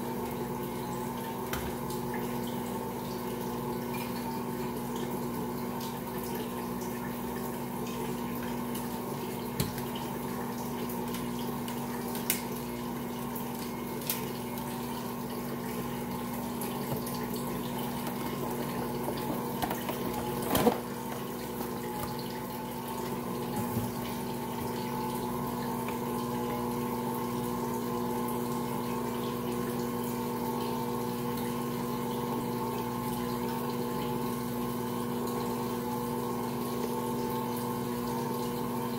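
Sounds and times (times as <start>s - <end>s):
stand mixer kneading dough: 0.0s - 38.9s.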